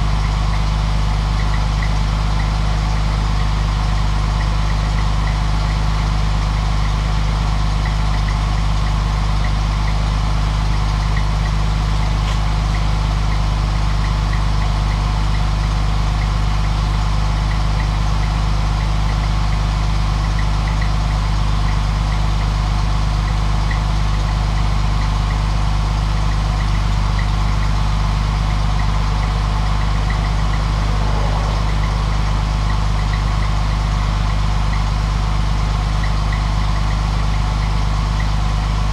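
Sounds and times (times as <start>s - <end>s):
engine idling: 0.0s - 38.9s
faint light ticking: 0.0s - 38.9s.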